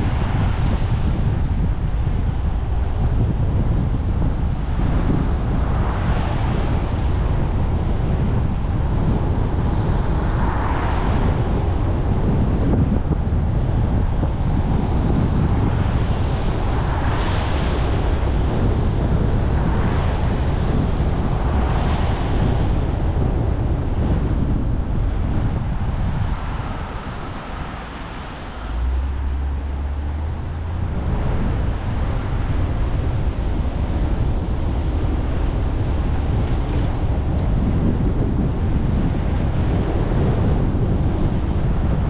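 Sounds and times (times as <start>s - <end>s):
low rumble of tyres: 0.0s - 42.0s
wind buffeting microphone: 0.0s - 42.0s.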